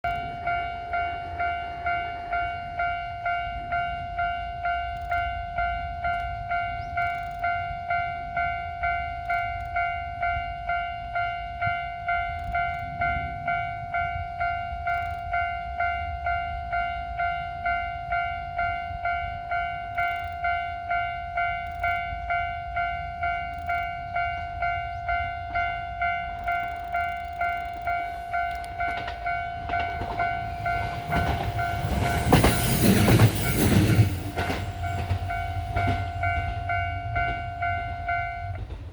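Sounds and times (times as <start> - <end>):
level-crossing alarm bell dinging: 0.0 - 38.9.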